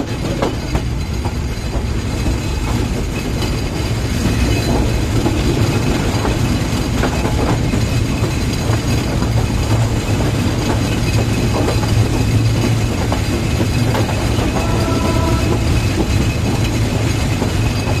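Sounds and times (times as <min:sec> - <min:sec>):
train rumble with wheel noise: 0:00.0 - 0:18.0.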